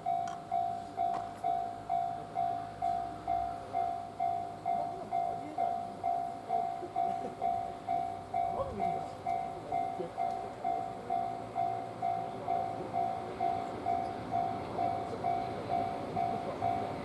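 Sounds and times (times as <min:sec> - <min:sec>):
level-crossing alarm ringing: 0:00.0 - 0:17.0
train running: 0:00.0 - 0:17.0.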